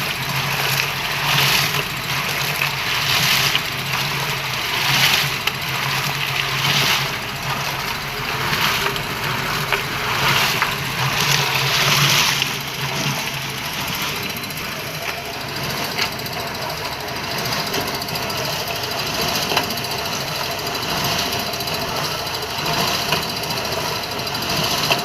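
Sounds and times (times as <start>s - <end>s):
concrete mixer motor hum: 0.0s - 25.0s
drum contents churning: 0.0s - 25.0s.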